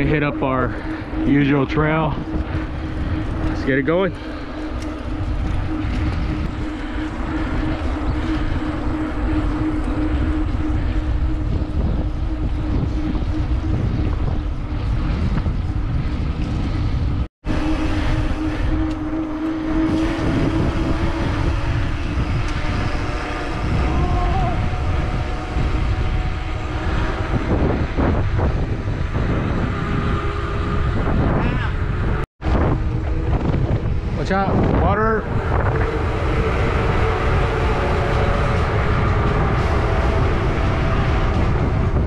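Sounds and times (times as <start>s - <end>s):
bike tyres rumbling: 0.0s - 42.0s
steady hum: 0.0s - 42.0s
wind on camera microphone: 0.0s - 42.0s.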